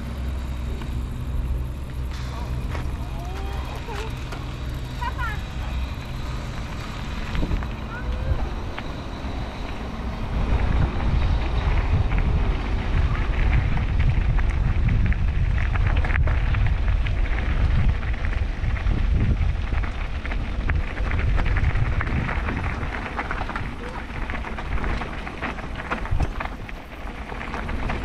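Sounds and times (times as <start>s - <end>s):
tyres crunching on dirt: 0.0s - 28.0s
wind buffeting microphone: 0.0s - 28.0s.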